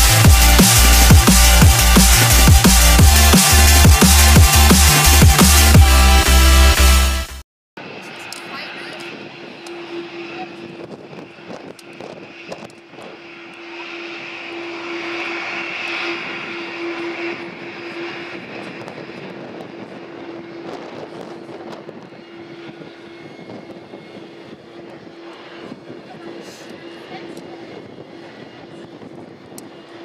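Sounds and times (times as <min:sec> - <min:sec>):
jet engines running: 0:00.0 - 0:07.1, 0:07.8 - 0:30.0.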